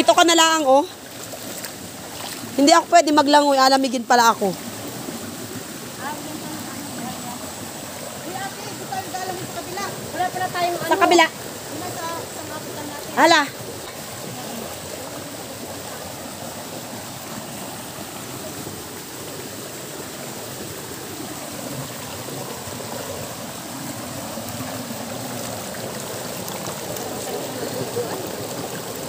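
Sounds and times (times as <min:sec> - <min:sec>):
water splashing over rocks: 0:00.0 - 0:29.0.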